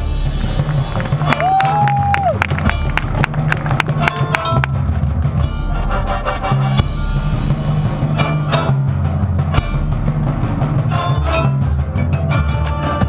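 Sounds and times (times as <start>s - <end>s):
drums and timpani: 0.0s - 13.0s
marching band playing: 0.0s - 13.0s
sharp percussion hits: 0.0s - 13.0s.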